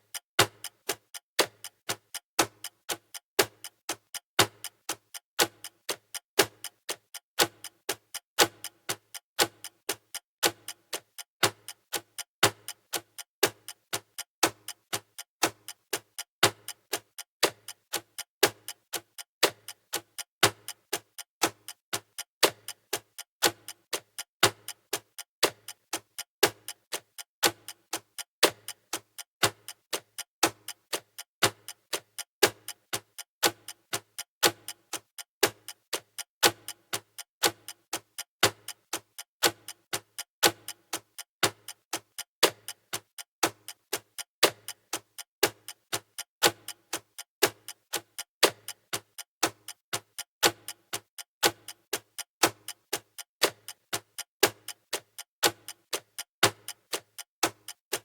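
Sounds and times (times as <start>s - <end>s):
countdown timer ticking: 0.0s - 58.0s.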